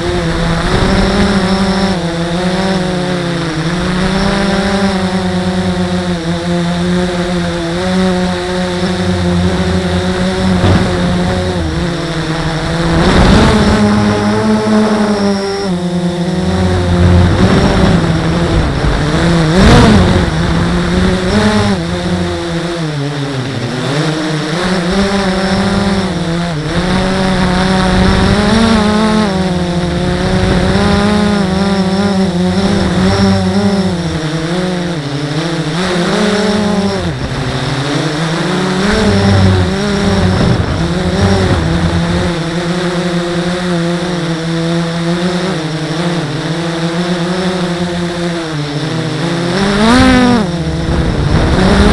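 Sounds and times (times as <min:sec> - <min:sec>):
quadcopter motors buzzing: 0:00.0 - 0:51.9.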